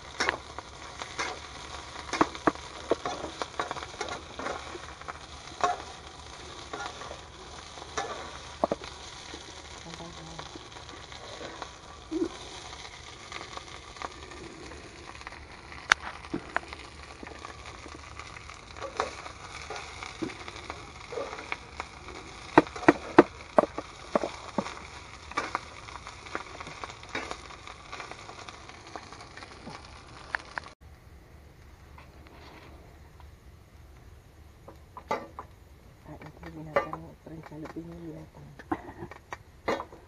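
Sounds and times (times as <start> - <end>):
rice sizzling in a wok: 0.0 - 30.8, 31.8 - 40.0
sharp crackles and clicks: 0.0 - 40.0.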